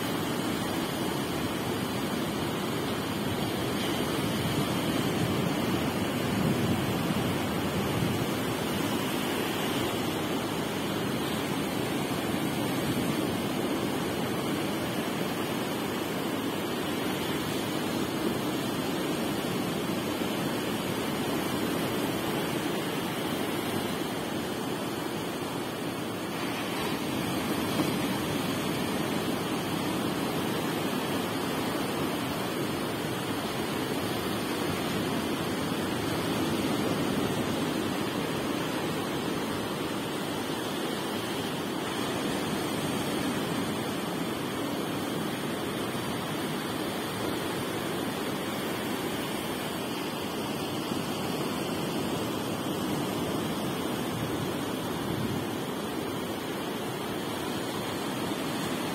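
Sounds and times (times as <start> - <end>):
small waves breaking on beach: 0.0 - 58.9.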